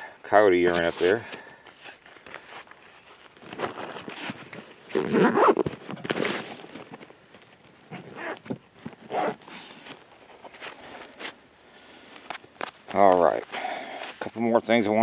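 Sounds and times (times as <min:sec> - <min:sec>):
rustling and handling noises: 0:00.5 - 0:15.0.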